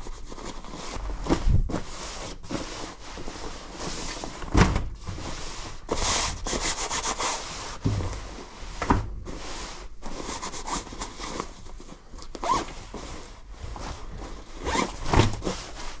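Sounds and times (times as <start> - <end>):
fabric rustling: 0.2 - 16.0.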